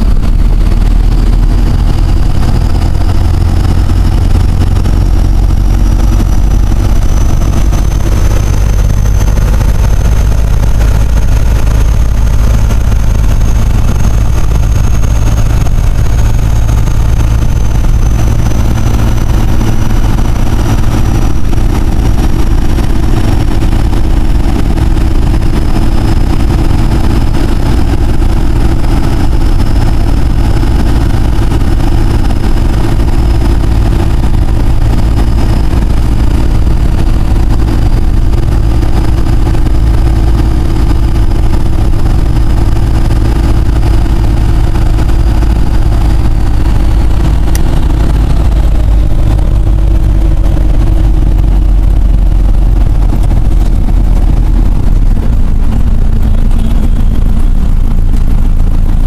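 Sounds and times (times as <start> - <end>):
diesel engine running: 0.0 - 59.0
turbocharger whine: 0.0 - 59.0.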